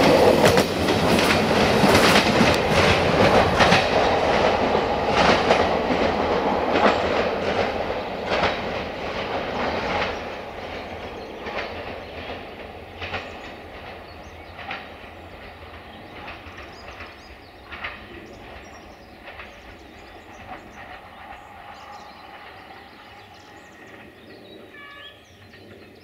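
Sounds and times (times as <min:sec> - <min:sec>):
wheels clicking over rail joints: 0:00.0 - 0:23.7
train rumbling: 0:00.0 - 0:26.0.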